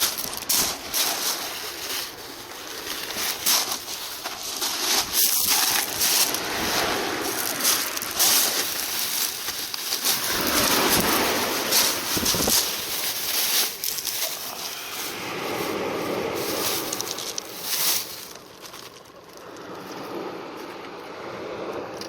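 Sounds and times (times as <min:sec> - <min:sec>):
gusty wind on microphone: 0:00.0 - 0:18.3.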